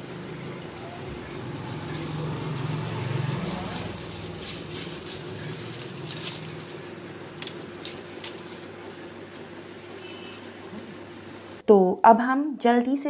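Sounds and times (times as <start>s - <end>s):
leaves rustling: 0.0s - 11.6s.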